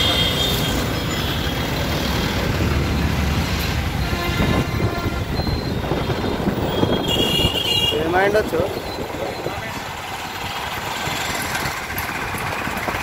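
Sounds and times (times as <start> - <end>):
bus engine rumble: 0.0 - 13.0
traffic noise: 0.0 - 13.0.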